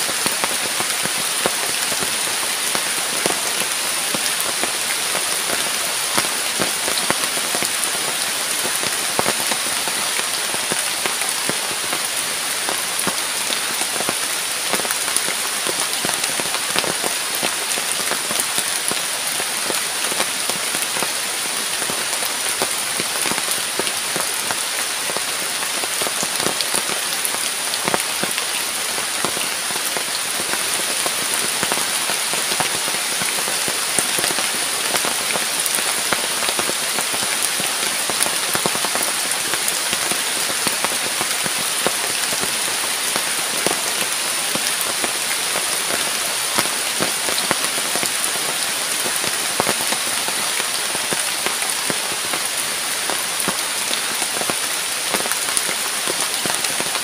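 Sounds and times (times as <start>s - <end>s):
heavy rain on tent and leaves: 0.0s - 57.0s.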